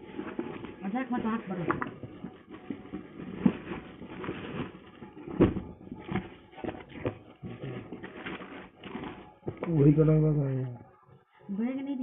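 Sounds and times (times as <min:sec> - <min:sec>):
cardboard boxes rustling: 0:00.0 - 0:09.9.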